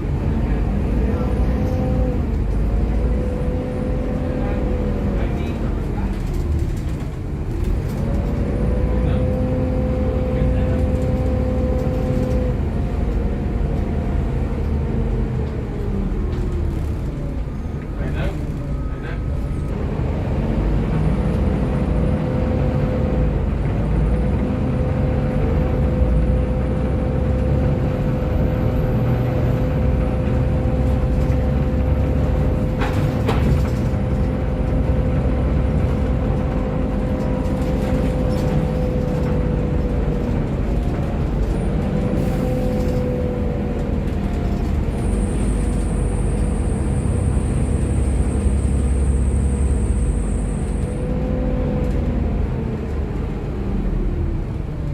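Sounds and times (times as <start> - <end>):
bus engine rumble and whine: 0.0 - 54.9
road noise: 0.0 - 54.9.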